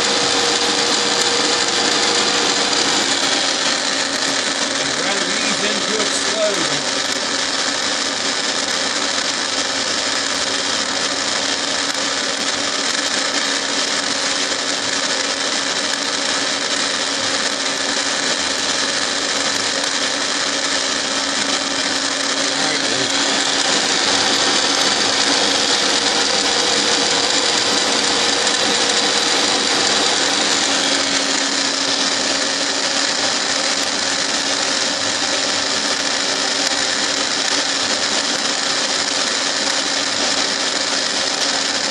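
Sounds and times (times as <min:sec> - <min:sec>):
milling machine cutting metal: 0:00.0 - 0:41.9.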